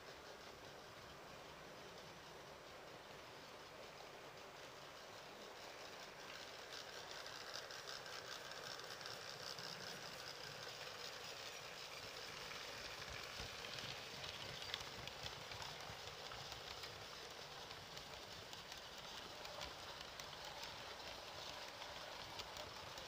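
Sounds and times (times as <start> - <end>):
model train whirring hiss: 0.0 - 23.0
wheels clicking over rail joints: 0.0 - 23.0.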